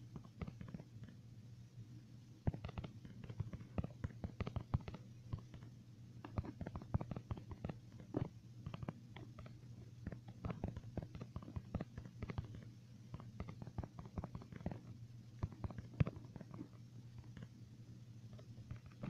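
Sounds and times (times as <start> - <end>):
steady low hum: 0.0 - 19.0
small clicks and taps: 0.1 - 1.2, 2.4 - 17.6, 18.3 - 19.0.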